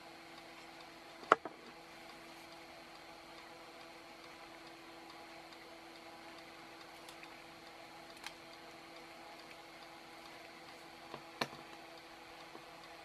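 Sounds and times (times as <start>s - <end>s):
faint steady ticking: 0.0s - 13.0s.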